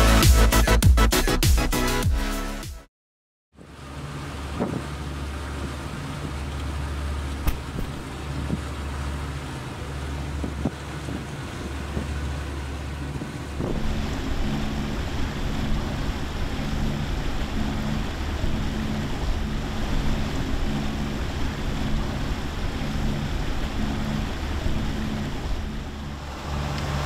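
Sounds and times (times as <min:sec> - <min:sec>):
boat engine drone: 0:03.5 - 0:27.0
wind and water hiss: 0:03.6 - 0:27.0.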